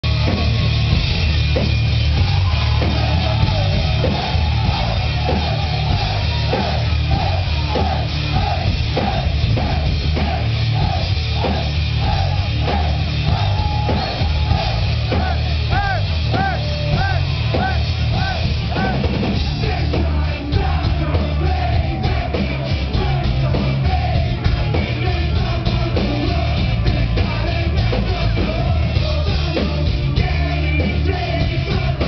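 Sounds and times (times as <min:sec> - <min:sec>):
metal band playing loud: 0:00.0 - 0:32.0.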